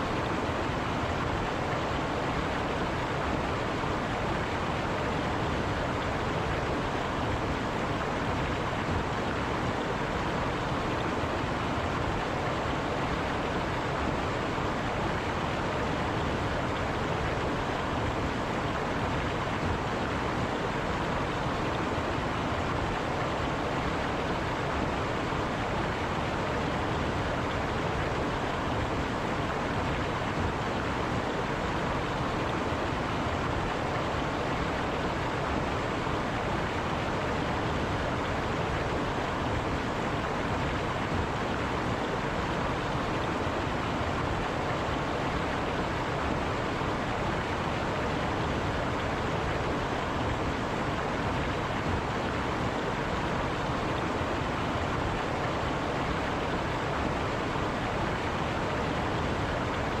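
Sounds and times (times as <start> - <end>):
river water running over rocks: 0.0 - 60.0.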